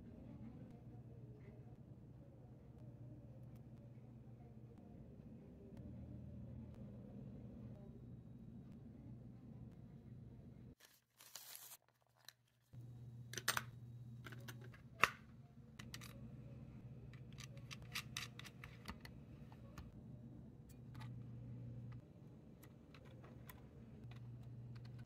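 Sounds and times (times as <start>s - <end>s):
steady low hum: 0.0s - 10.8s, 12.8s - 25.0s.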